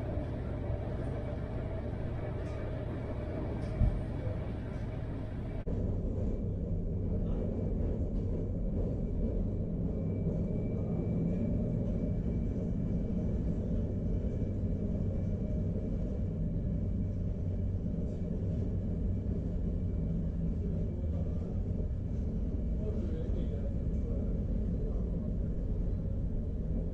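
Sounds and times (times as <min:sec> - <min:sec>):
tram wheels rumbling on rails: 0:00.0 - 0:26.9.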